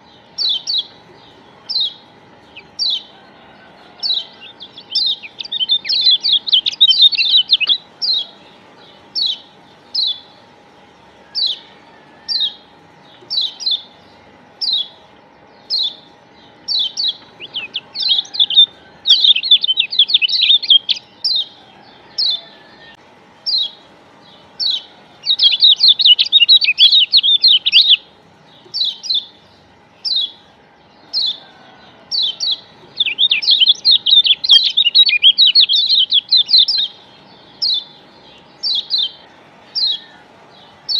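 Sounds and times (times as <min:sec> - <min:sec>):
bird chirping: 0:00.0 - 0:40.9
bird twittering rapidly: 0:00.0 - 0:40.9.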